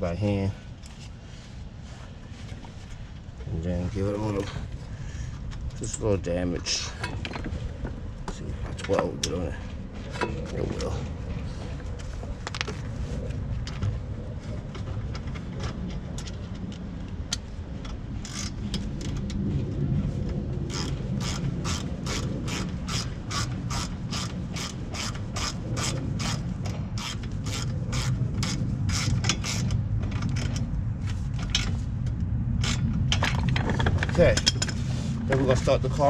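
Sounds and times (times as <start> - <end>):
low steady rumble: 0.0 - 36.0.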